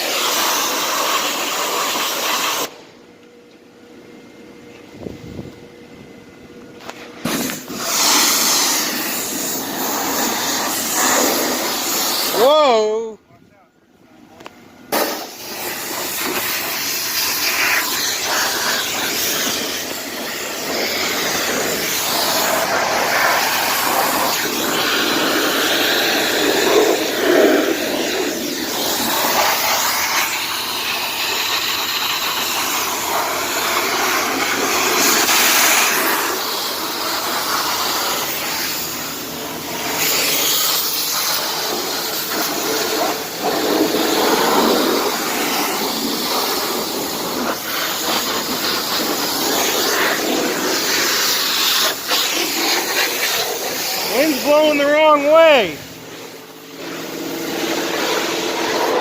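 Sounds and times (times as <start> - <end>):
pressure washer spraying car: 0.0 - 2.8, 7.2 - 13.1, 14.9 - 59.0.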